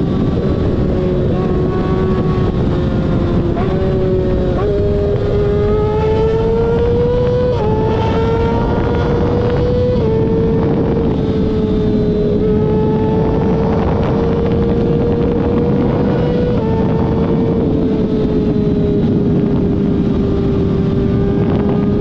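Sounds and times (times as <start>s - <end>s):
road and wind rumble: 0.0s - 22.0s
vehicle engine accelerating: 0.0s - 22.0s.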